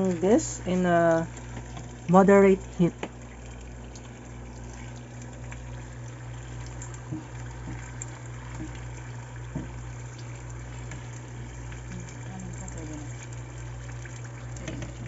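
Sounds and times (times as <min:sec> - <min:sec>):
constant low hum: 0:00.0 - 0:15.0
food deep-frying in oil: 0:00.0 - 0:15.0.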